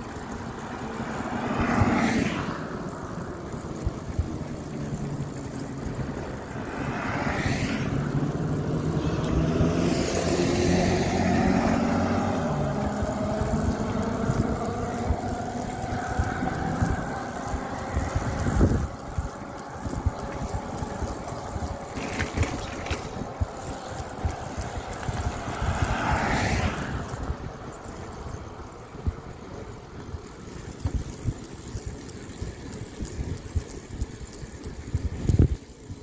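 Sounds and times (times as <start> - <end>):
vehicle engine passing by: 0.0 - 29.2.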